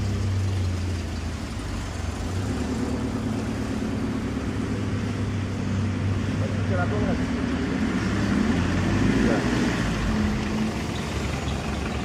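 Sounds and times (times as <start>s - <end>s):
low hum of road traffic: 0.0s - 12.0s.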